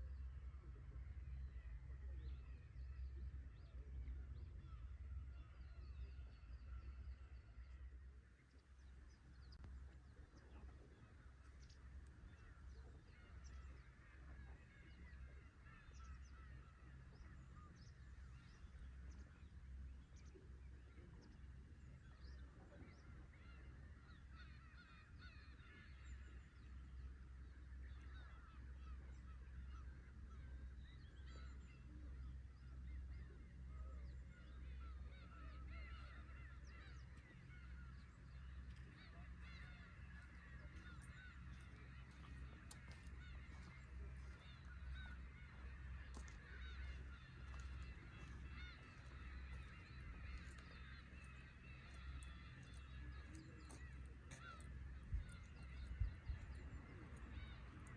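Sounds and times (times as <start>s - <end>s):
gulls mewing calls: 9.6s - 57.9s.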